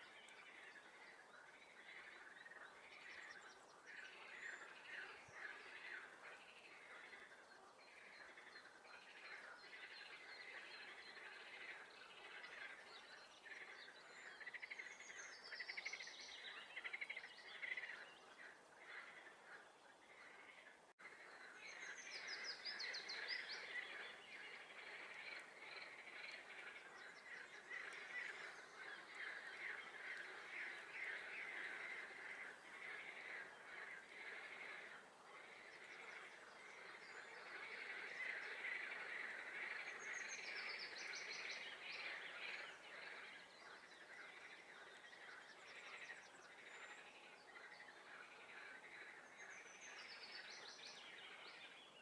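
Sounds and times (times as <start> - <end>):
songbird singing: 0.0 - 52.0
frogs croaking in chorus: 0.4 - 51.8.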